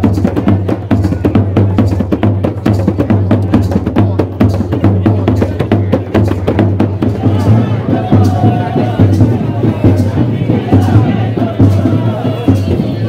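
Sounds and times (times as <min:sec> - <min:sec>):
deep drum tone: 0:00.0 - 0:13.0
hand drums beating fast rhythm: 0:00.0 - 0:13.0.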